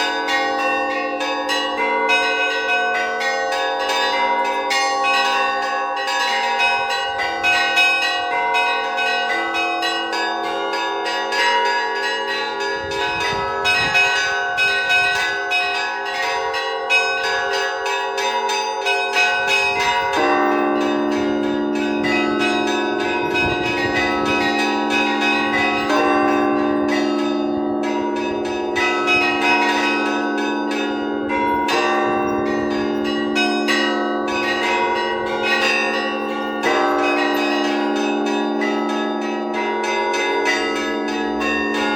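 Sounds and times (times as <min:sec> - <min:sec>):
large bells tolling: 0:00.0 - 0:41.9.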